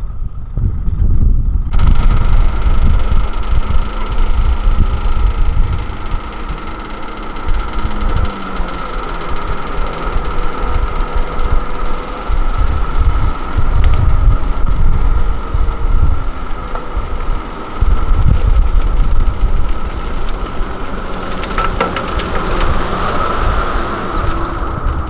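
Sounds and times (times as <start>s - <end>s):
diesel engine rumbling: 0.0s - 25.0s
hydraulic hoist whine: 0.0s - 25.0s.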